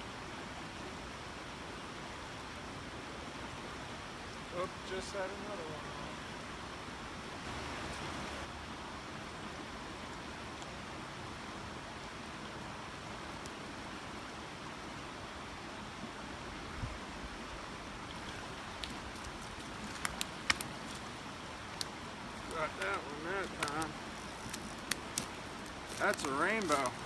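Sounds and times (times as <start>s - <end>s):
creek flowing over rocks: 0.0s - 27.0s.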